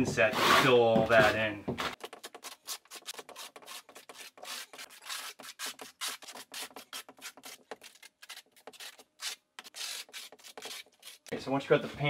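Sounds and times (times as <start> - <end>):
trowel scraping thinset: 0.0 - 11.3.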